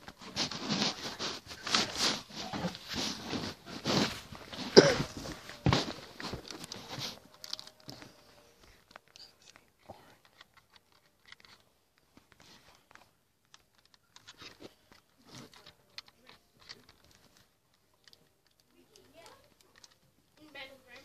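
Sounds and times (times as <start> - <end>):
faint rustling and crackling: 0.0 - 21.0.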